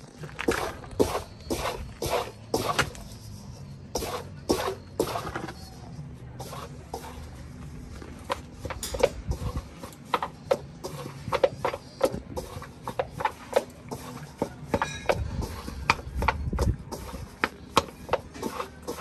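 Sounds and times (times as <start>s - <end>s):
hands kneading damp flour: 0.0s - 19.0s.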